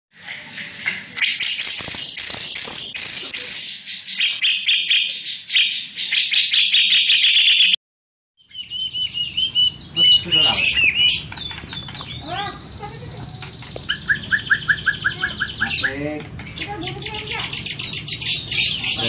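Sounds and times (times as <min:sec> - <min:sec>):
caged songbirds chirping and trilling: 0:00.2 - 0:07.8, 0:08.4 - 0:19.0.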